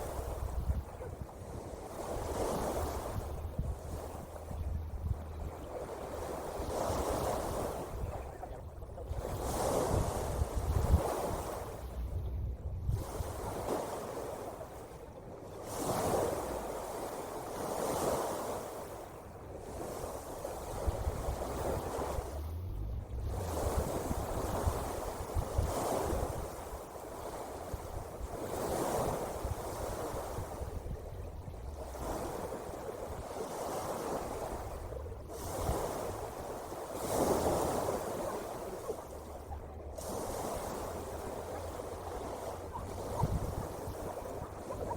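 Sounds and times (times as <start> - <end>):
ocean waves washing in: 0.0 - 44.9.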